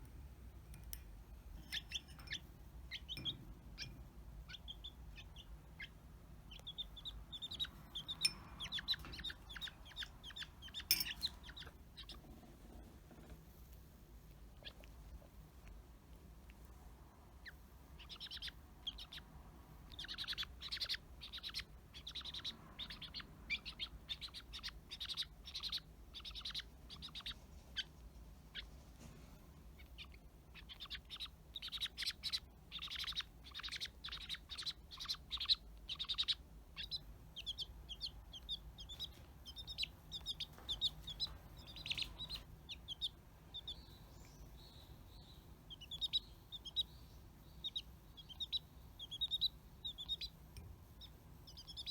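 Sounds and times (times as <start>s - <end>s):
chick peeping: 1.6s - 12.4s, 14.3s - 15.8s, 16.4s - 29.0s, 29.6s - 51.9s.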